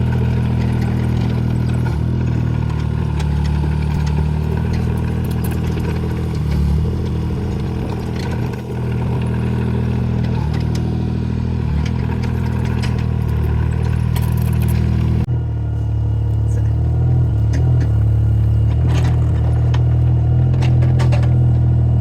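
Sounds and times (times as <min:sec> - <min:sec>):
knocks and clatter: 0:00.0 - 0:15.3, 0:17.4 - 0:21.8
excavator diesel engine running: 0:00.0 - 0:22.0.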